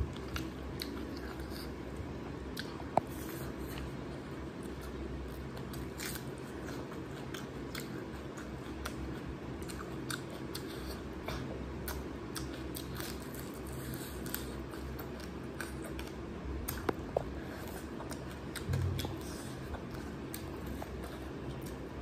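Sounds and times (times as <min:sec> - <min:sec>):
person chewing crunchy food: 0:00.0 - 0:22.0
steady low hum: 0:00.0 - 0:22.0.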